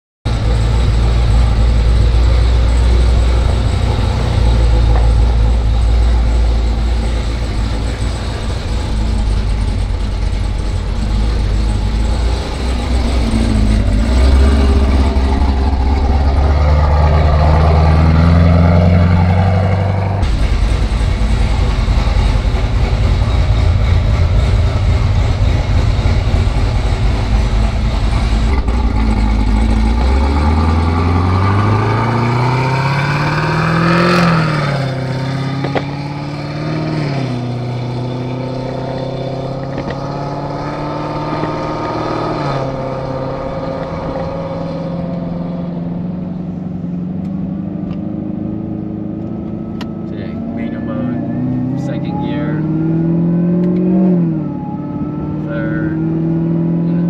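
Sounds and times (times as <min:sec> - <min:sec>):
car engine idling and revving: 0:00.2 - 0:57.0.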